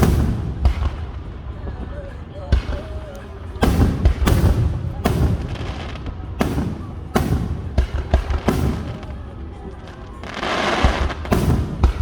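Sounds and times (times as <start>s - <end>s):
fireworks bangs with echoes: 0.0s - 12.0s
fireworks hissing and crackling: 0.0s - 12.0s.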